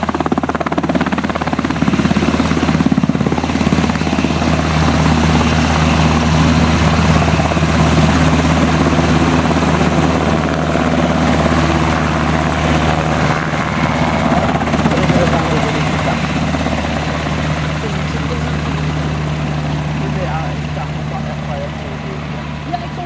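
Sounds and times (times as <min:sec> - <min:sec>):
helicopter engine hum: 0:00.0 - 0:23.0
helicopter rotor chop: 0:00.0 - 0:23.0.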